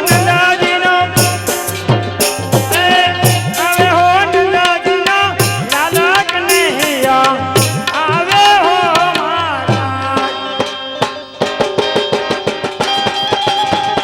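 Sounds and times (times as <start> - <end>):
hand drums: 0.0 - 14.0.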